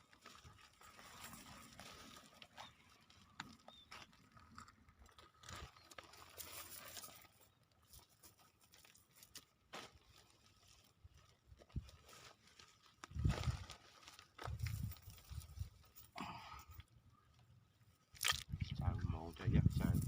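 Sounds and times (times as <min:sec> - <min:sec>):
crunching rustles: 0:00.0 - 0:20.0.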